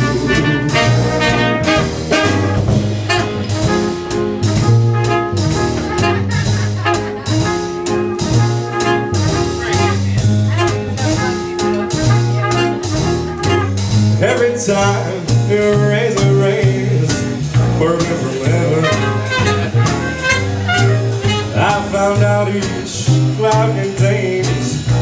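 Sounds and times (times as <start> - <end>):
brass horns: 0.0 - 15.8, 17.4 - 23.6
jazz band playing: 0.0 - 25.0.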